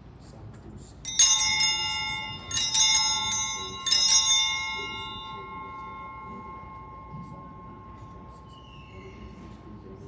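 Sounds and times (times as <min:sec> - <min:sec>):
altar bells jangling: 0:01.1 - 0:10.0.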